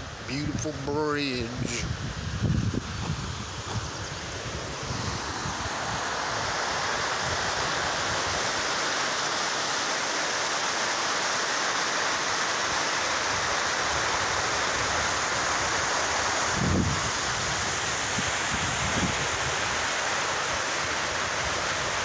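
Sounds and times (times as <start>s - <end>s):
river rushing over rocky rapids: 2.8s - 22.0s.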